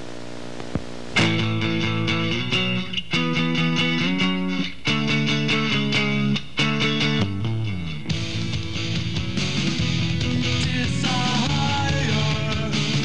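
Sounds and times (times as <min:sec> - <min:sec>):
rock guitar chords: 0:00.0 - 0:13.0.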